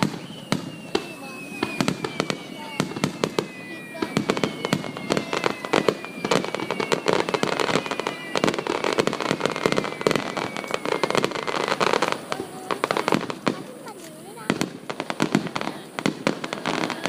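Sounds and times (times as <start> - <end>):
falling whistling tones: 0.0 - 17.0
fireworks bursting and crackling: 0.0 - 17.0.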